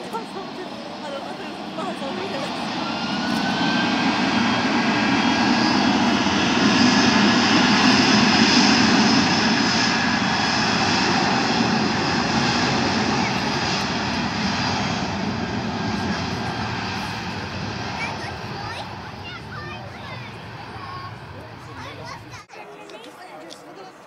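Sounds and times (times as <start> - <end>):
jet engines roaring with whine: 0.0 - 24.0.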